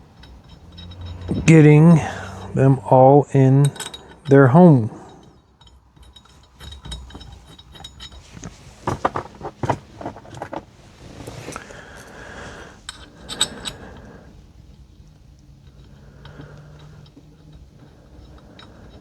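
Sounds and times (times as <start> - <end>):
steel bolts clinking: 0.0 - 19.0.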